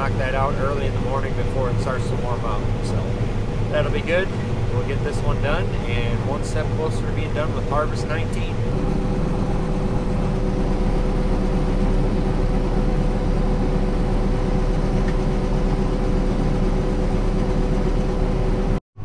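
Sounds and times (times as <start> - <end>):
steady humming tones: 0.0 - 18.8
combine harvester drone: 0.0 - 19.0.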